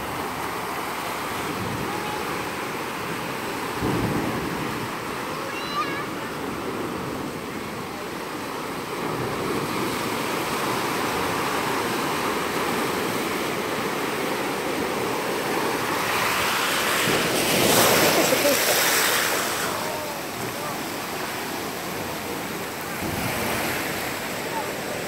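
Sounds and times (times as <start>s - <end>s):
ocean surf on rocks: 0.0s - 25.0s.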